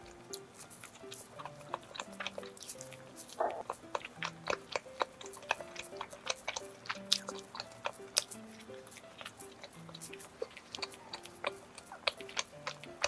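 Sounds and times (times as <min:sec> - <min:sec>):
bun crust crackling and tearing: 0:00.0 - 0:13.0
soft background music: 0:00.0 - 0:13.0.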